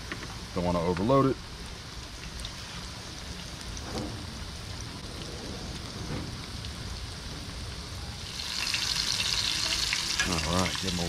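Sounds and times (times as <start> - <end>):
food sizzling in hot oil: 0.1 - 11.0.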